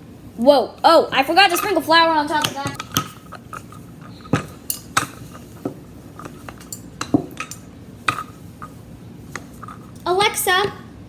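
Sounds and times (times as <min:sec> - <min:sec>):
utensils and dishes clinking: 0:01.0 - 0:10.5.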